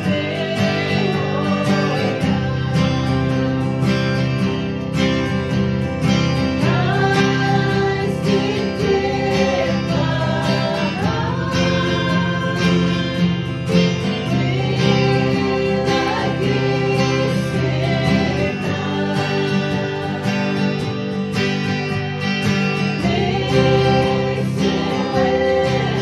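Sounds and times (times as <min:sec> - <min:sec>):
gliding guitar melody: 0:00.0 - 0:26.0
strummed acoustic guitar chords: 0:00.0 - 0:26.0.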